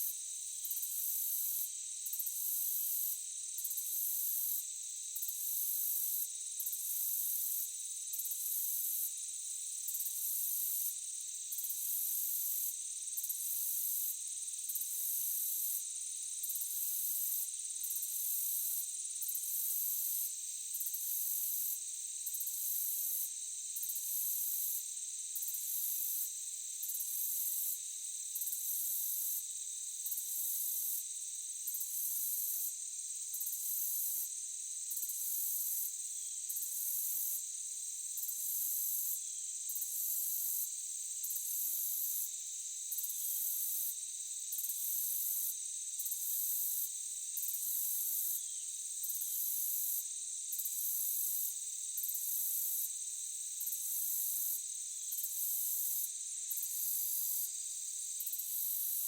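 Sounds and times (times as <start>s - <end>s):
insects droning: 3.6s - 59.0s
very high insect trill: 9.8s - 59.0s.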